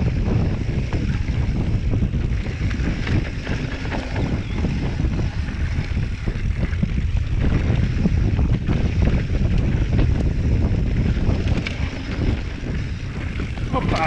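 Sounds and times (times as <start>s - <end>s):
bike rattling and knocking: 0.0s - 14.0s
bike tyres rumbling over dirt: 0.0s - 14.0s
wind buffeting microphone: 0.0s - 14.0s.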